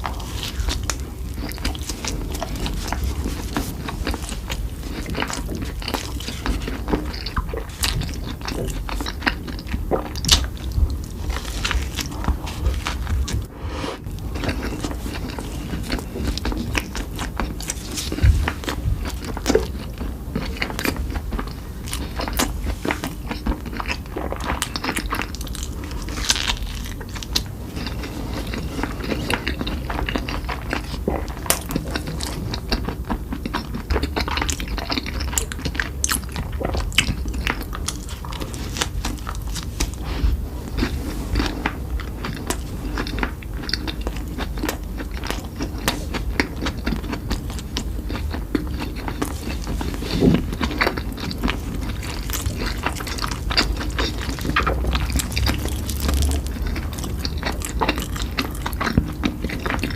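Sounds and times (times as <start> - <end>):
crunchy chewing and biting: 0.0 - 59.9.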